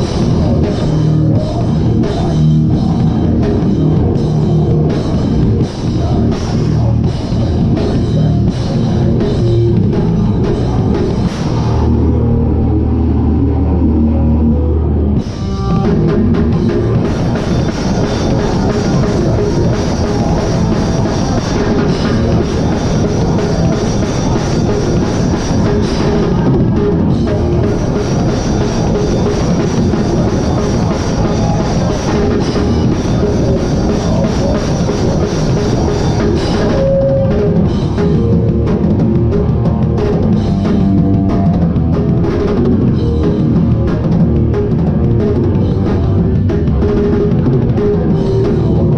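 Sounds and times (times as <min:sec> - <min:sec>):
drum kit: 0:00.0 - 0:48.9
hardcore band playing loud: 0:00.0 - 0:48.9.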